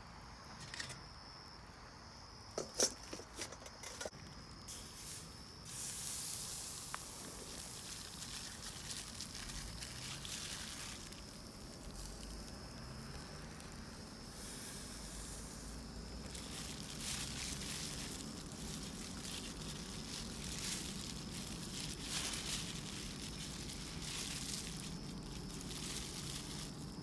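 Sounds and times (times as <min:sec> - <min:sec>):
campfire grill hissing and crackling: 0:04.0 - 0:27.0.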